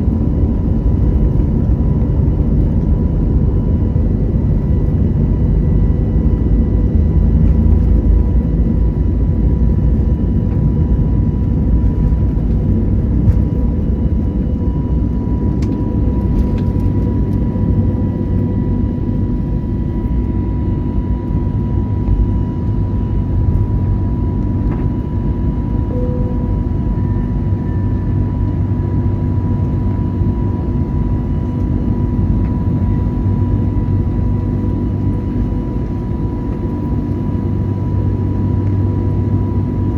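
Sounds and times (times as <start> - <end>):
airplane cabin rumble: 0.0 - 39.9
faint constant whine: 0.0 - 39.9.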